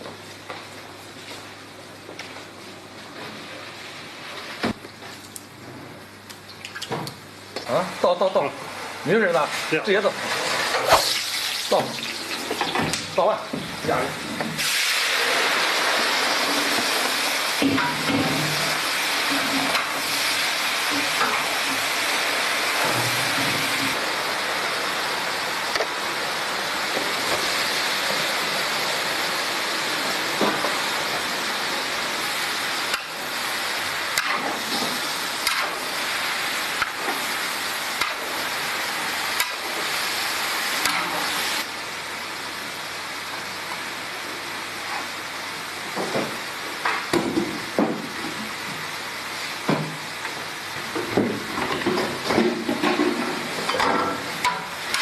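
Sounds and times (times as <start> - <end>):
wok stove hissing: 7.2 - 55.0.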